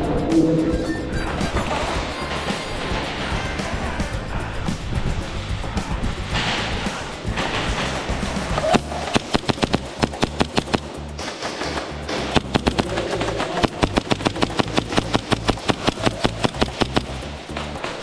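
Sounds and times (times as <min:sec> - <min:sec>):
music with heavy bass beat: 0:00.0 - 0:18.0.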